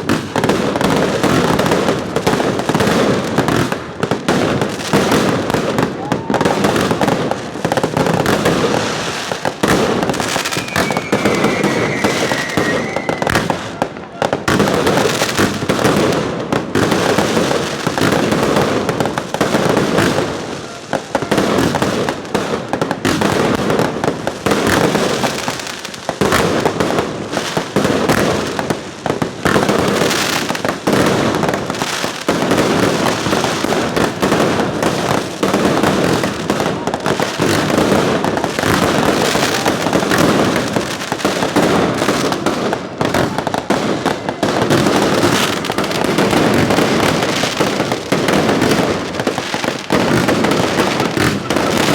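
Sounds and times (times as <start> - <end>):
fireworks bursting: 0.0 - 51.9
fireworks crackling: 0.0 - 51.9.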